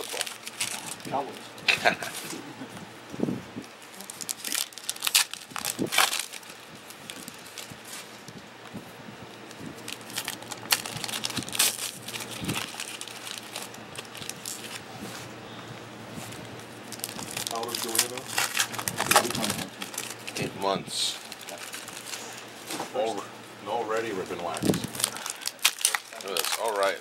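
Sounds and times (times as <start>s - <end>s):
foil wrappers crinkling and tearing: 0.0s - 2.4s, 3.7s - 15.3s, 16.2s - 23.2s, 23.8s - 27.0s.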